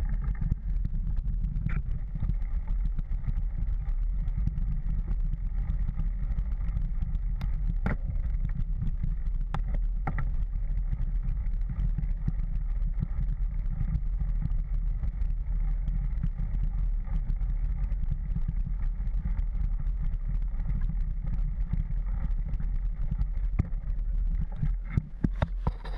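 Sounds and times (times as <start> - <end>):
wind and trail rumble: 0.0 - 25.9.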